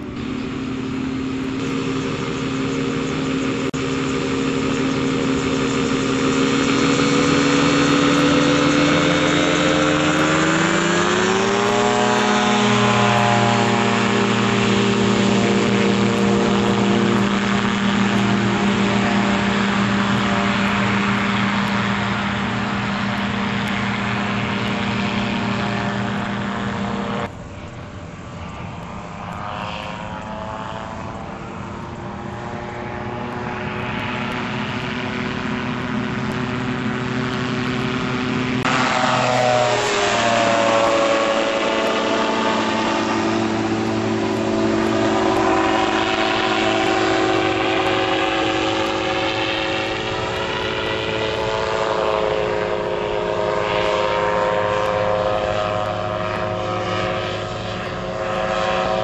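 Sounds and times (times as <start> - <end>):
gyrocopter engine and propeller: 0.0 - 59.0.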